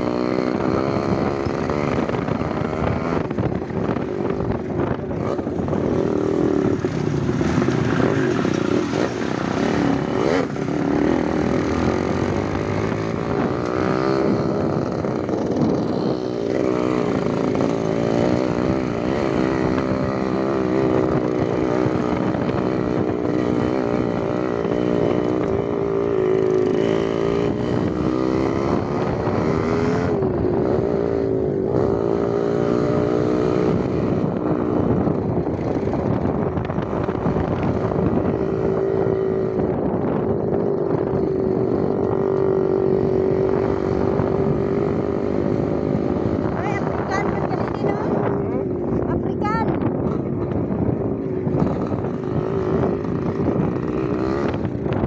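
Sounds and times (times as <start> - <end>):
rush of riding noise: 0.0 - 55.0
small motorcycle engine revving: 0.0 - 55.0.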